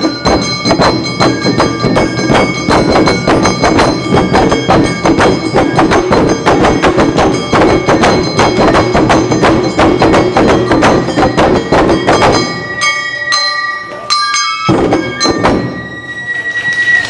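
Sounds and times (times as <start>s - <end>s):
rapid drum strikes: 0.0s - 12.9s, 14.6s - 15.9s
ringing metal bell strikes: 0.0s - 17.0s.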